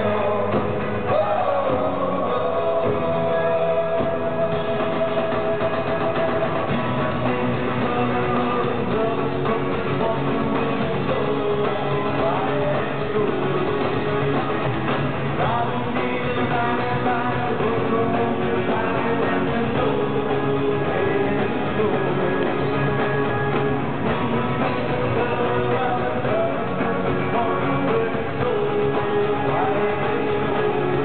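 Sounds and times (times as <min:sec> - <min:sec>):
electric guitar: 0:00.0 - 0:31.0
live rock band: 0:00.0 - 0:31.0
person singing: 0:00.0 - 0:31.0.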